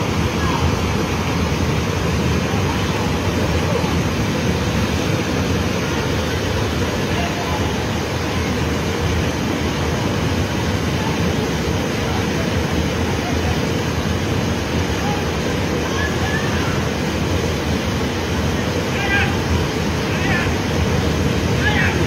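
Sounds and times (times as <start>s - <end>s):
flooded river rushing: 0.0s - 22.0s.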